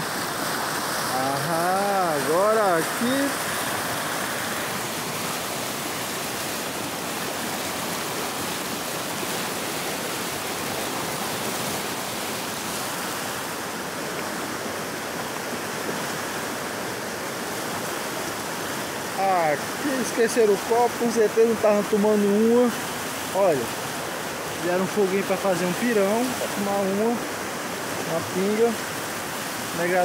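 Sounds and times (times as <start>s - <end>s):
floodwater rushing over rocks: 0.0s - 30.0s.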